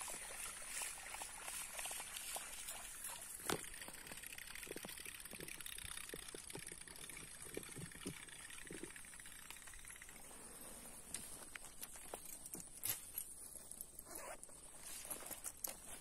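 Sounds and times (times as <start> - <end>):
faint water sounds: 0.0 - 16.0.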